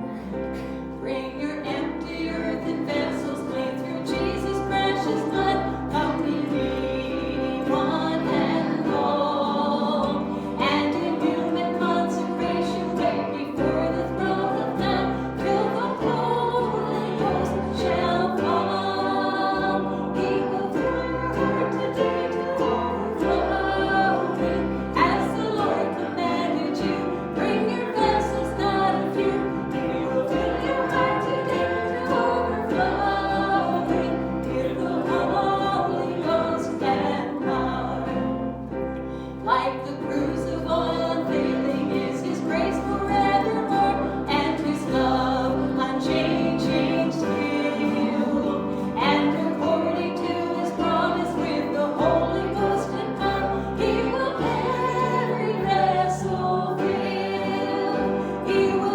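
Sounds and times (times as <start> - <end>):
congregation singing: 0.0 - 58.9
instrumental accompaniment: 0.0 - 58.9.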